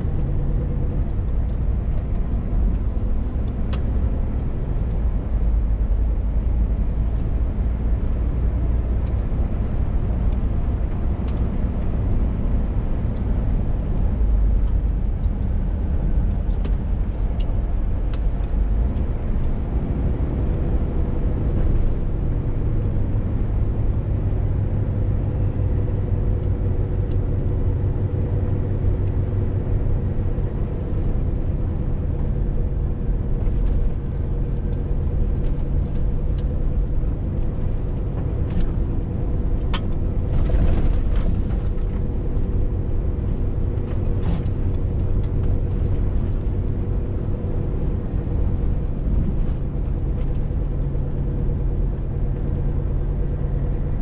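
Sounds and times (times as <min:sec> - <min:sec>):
diesel lorry engine droning: 0:00.0 - 0:54.0
road rumble: 0:00.0 - 0:54.0.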